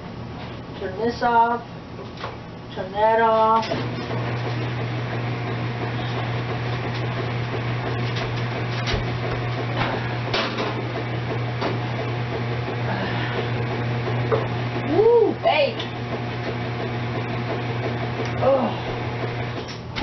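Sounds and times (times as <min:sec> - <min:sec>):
electric fan hum: 0:00.0 - 0:20.0.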